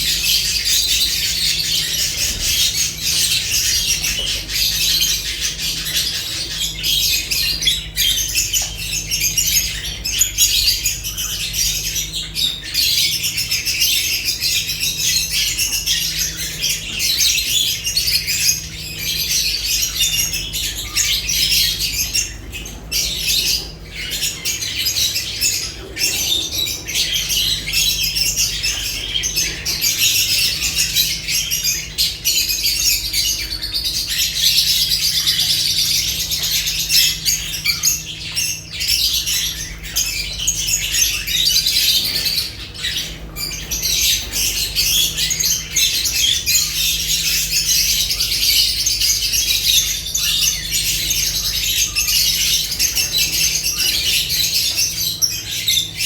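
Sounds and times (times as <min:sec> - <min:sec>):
lovebirds chattering and squawking: 0:00.0 - 0:56.0.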